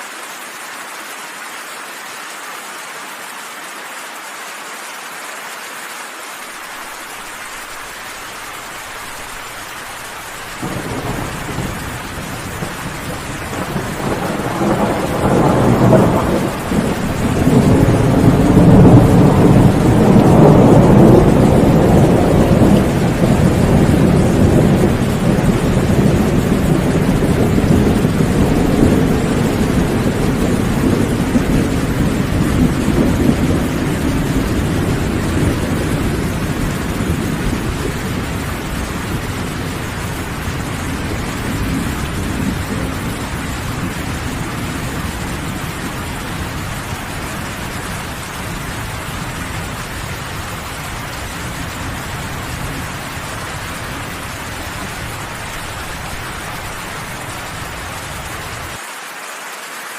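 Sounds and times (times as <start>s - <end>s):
rain falling: 0.0s - 59.9s
thunder rumbling: 8.7s - 58.8s.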